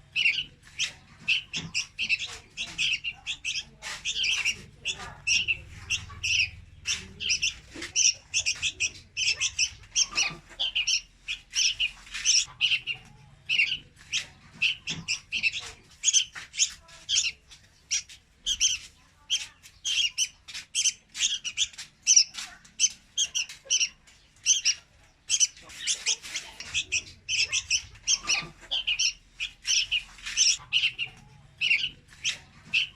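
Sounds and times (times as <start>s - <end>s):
bulbuls chirping rapidly: 0.0s - 32.9s.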